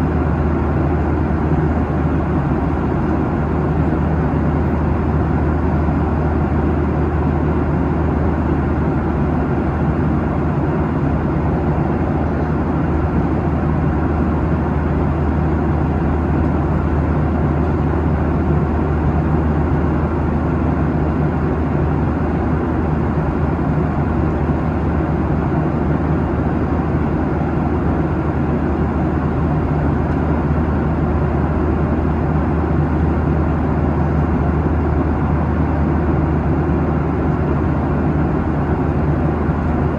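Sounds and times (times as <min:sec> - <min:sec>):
low jet engine hum: 0:00.0 - 0:39.9.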